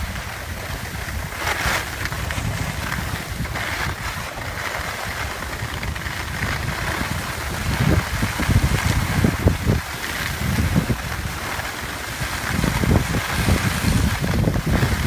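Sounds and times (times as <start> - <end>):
skis scraping on snow: 0.0 - 15.0
wind buffeting microphone: 0.0 - 15.0.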